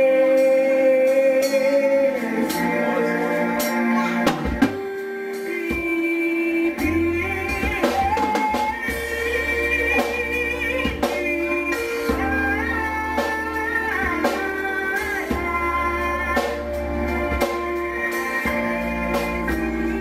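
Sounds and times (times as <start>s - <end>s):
bass line: 0.0s - 20.0s
drums: 0.0s - 20.0s
person singing through pa: 0.0s - 20.0s.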